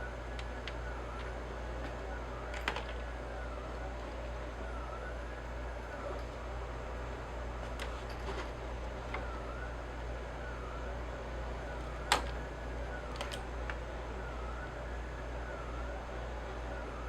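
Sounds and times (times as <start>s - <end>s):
faint wailing siren: 0.0s - 17.0s
steady low hum: 0.0s - 17.0s.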